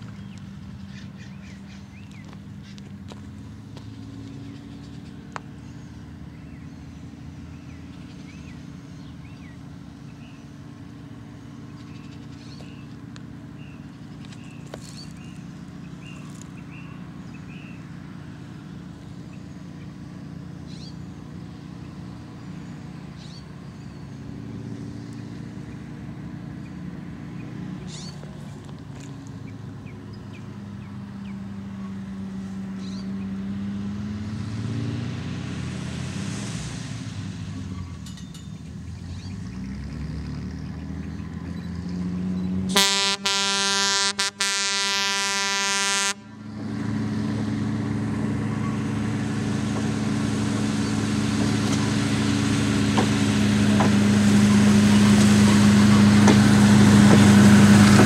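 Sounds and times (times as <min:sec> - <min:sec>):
rail motor car engines: 0:00.0 - 0:58.0.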